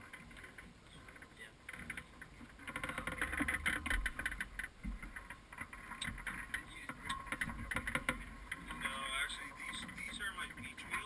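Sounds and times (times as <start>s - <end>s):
small clicks and rattles: 0.0s - 11.0s.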